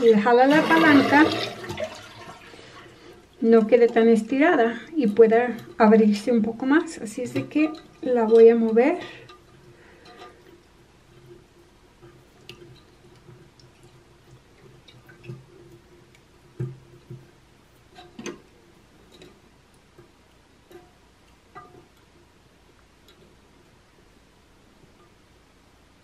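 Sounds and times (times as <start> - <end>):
water dripping: 0.0 - 24.1.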